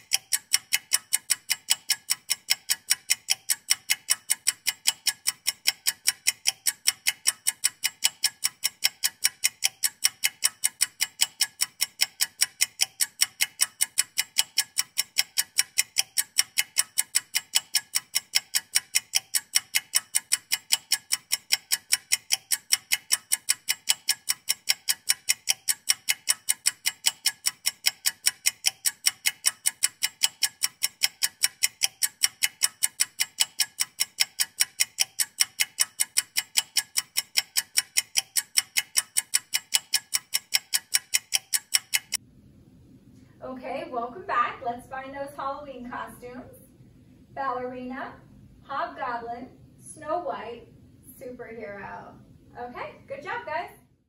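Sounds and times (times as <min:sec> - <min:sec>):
clock ticking: 0:00.0 - 0:42.2, 0:52.6 - 0:53.6.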